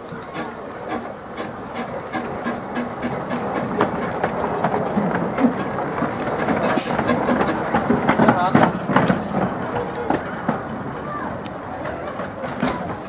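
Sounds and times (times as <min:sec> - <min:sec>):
steam locomotive wheels clicking: 0:00.0 - 0:13.0.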